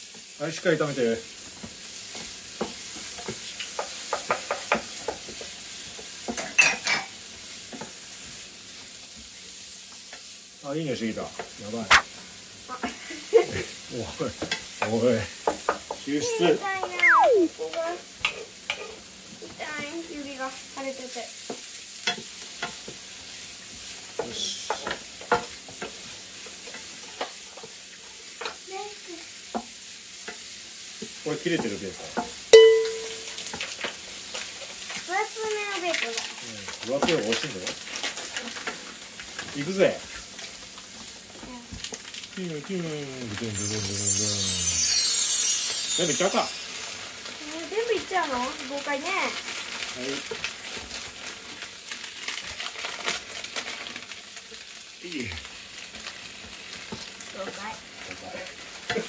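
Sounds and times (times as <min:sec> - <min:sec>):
vegetables sizzling in a pan: 0:00.0 - 0:59.0.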